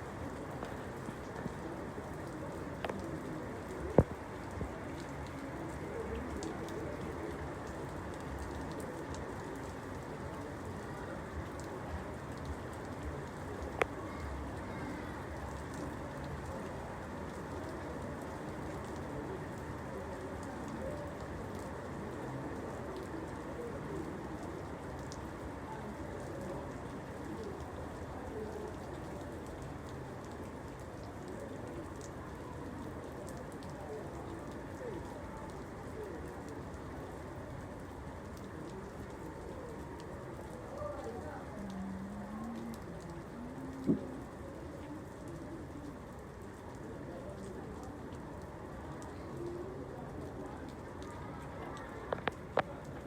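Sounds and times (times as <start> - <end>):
steady rainfall: 0.0 - 53.0.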